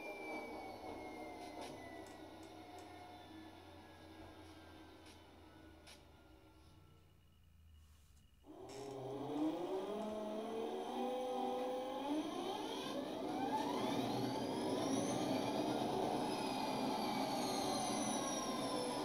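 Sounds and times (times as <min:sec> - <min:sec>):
diesel locomotive engine revving: 0:00.0 - 0:07.8, 0:08.4 - 0:19.0.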